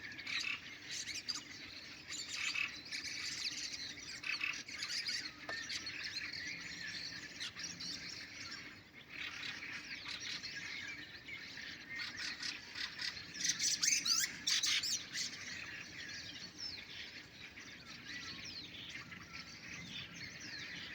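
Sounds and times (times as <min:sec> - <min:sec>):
nightingales singing: 0:00.0 - 0:20.9.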